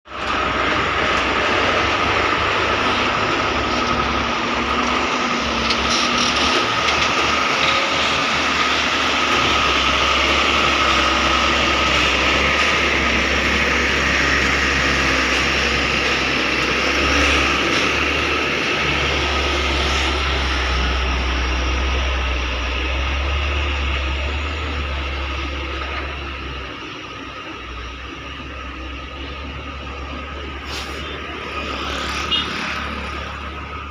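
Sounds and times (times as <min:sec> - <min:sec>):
excavator running: 0:00.1 - 0:33.9.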